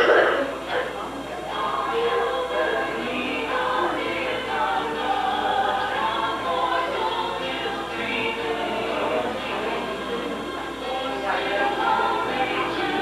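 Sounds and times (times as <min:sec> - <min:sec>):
choir singing a slow hymn: 0:00.7 - 0:13.0.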